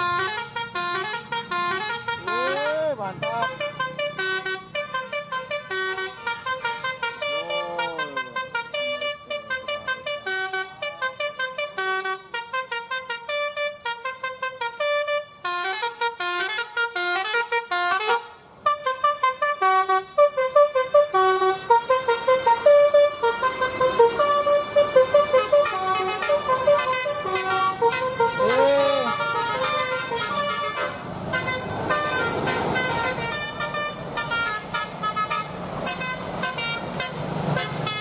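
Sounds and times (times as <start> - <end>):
musical bus horn melody: 0.0 - 38.0.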